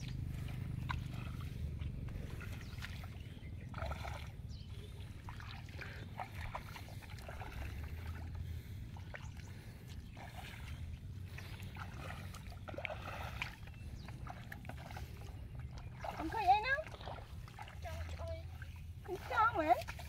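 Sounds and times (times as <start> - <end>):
bare footsteps squelching in mud: 0.0 - 20.0
low rumble: 0.0 - 20.0.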